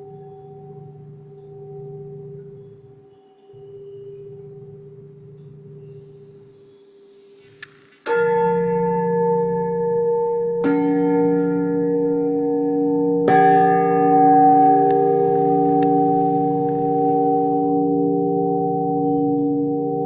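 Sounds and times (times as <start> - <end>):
bell-like metal instrument ringing: 0.0 - 6.9, 8.1 - 20.0.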